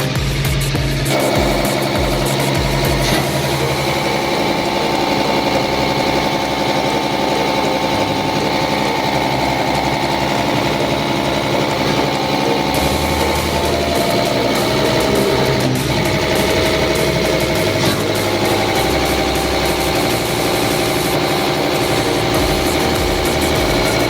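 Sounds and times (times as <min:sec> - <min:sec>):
fuel injection pump rattling: 0:00.0 - 0:24.0.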